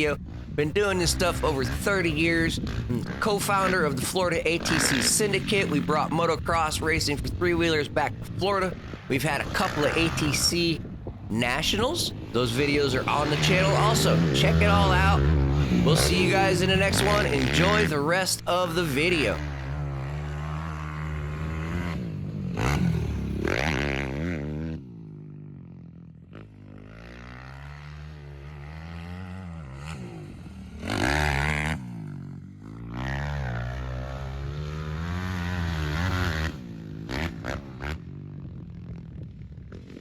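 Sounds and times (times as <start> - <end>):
motocross engines revving: 0.0 - 24.8, 26.9 - 38.1.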